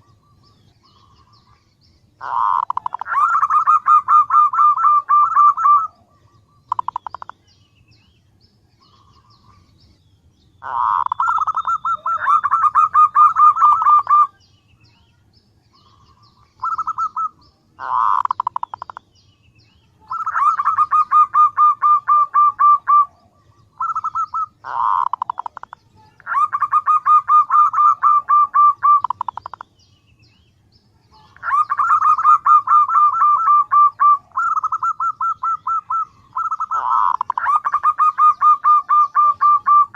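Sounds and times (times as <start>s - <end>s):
dove calling in pulsed notes: 0.0s - 39.9s.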